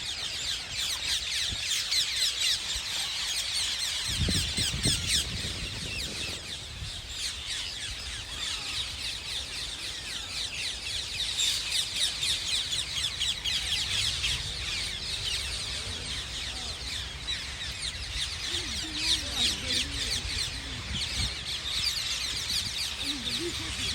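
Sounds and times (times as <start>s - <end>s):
flock of parakeets squawking: 0.0s - 23.9s.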